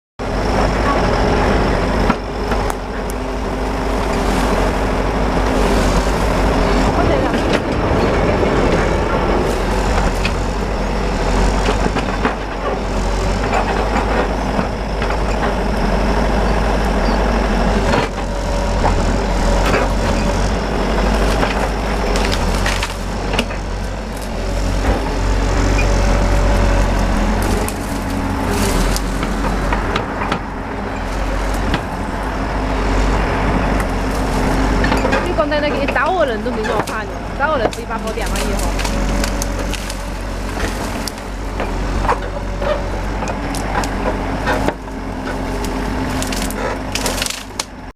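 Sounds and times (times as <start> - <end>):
diesel engine running: 0.2 - 47.9
wood cracking and splintering: 1.9 - 47.9.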